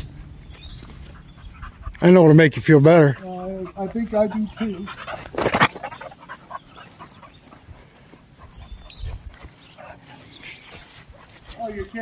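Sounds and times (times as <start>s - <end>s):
dog panting: 0.1s - 12.0s.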